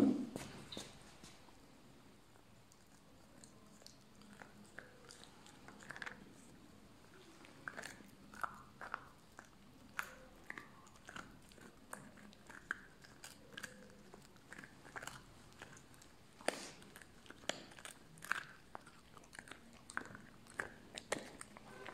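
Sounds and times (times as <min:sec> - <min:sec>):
puppy gnawing a bone: 0:02.2 - 0:21.9
wet chewing: 0:02.3 - 0:21.9.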